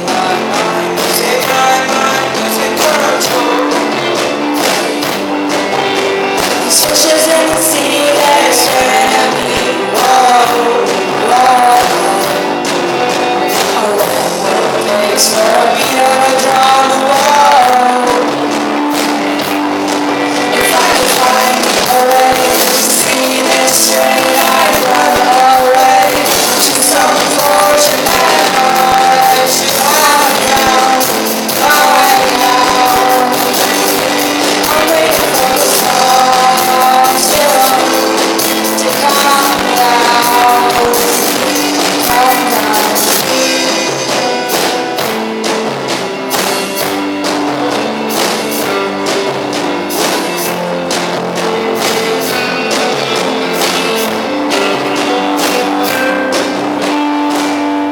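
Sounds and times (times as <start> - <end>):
live rock band playing: 0.0 - 57.9
person singing: 0.0 - 57.9.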